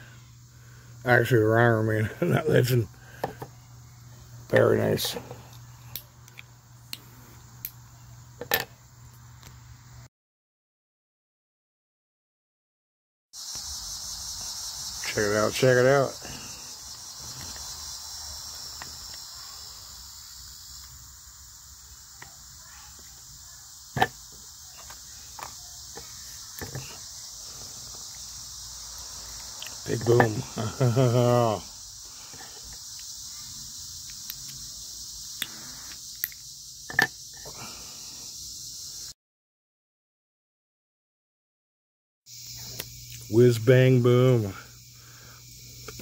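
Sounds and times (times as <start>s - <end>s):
crickets chirping: 0.0s - 10.1s, 13.4s - 39.2s, 42.3s - 46.0s.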